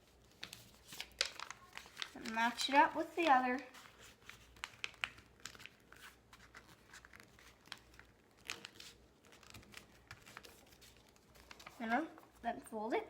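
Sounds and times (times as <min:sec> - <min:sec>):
paper rustling and crinkling: 0:00.0 - 0:12.4.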